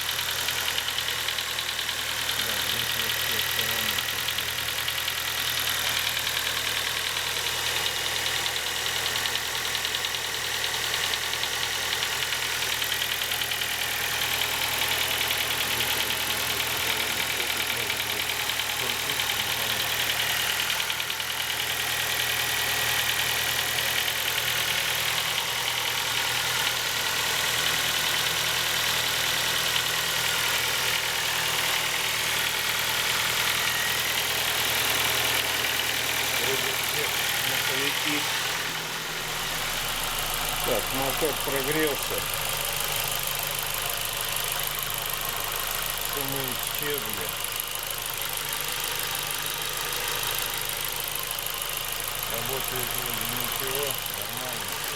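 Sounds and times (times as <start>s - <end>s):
car engine idling: 0.0s - 54.9s
engine knocking: 0.0s - 54.9s.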